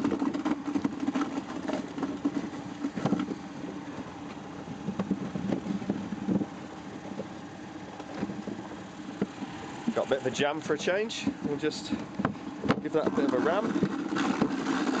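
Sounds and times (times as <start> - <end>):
apple scratter humming: 0.0 - 15.0.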